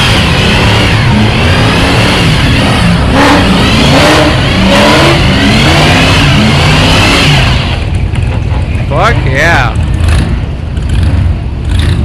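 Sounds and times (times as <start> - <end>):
muscle car engine revving: 0.0 - 12.0.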